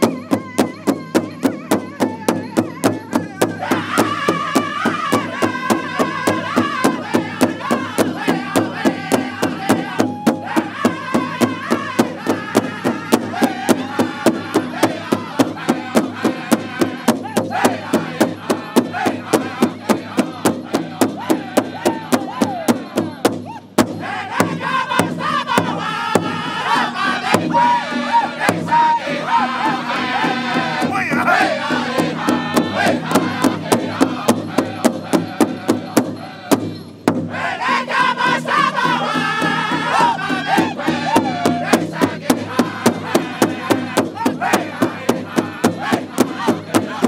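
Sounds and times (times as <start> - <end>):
men singing together: 0.0 - 23.4, 24.0 - 47.0
large drum beating: 0.0 - 47.0.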